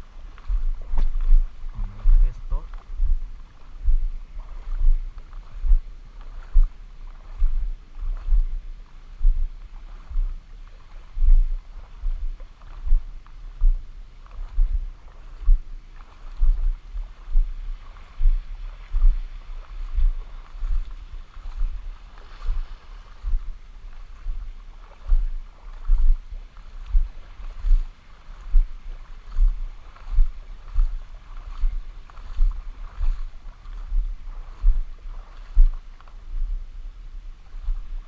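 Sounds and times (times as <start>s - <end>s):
low thumps on microphone: 0.0s - 10.5s, 11.1s - 15.8s, 16.4s - 23.6s, 24.2s - 36.7s
sea water washing at shore: 0.0s - 38.0s.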